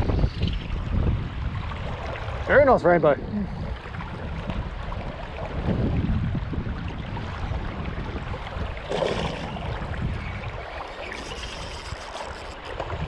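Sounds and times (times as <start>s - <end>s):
river water flowing: 0.0s - 13.0s
wind on microphone: 0.0s - 13.0s.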